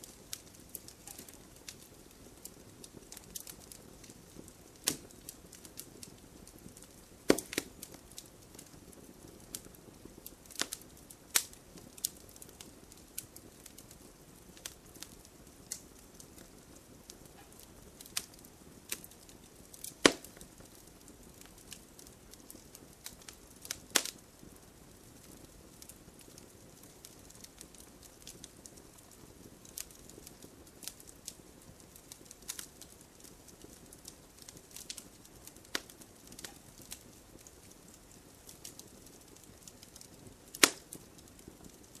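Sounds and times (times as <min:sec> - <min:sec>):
faint steady hiss: 0:00.0 - 0:42.0
wood fire crackling: 0:00.0 - 0:42.0.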